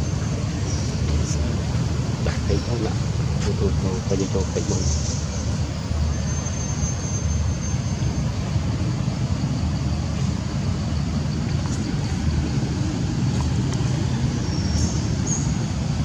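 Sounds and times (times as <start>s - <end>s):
low rumbling outdoor noise: 0.0s - 16.0s.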